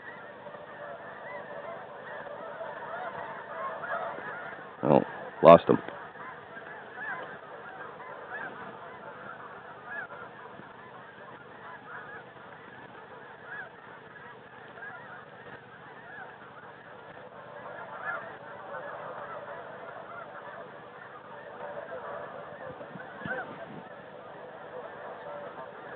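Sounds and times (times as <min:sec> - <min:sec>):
geese honking: 0:00.0 - 0:25.9.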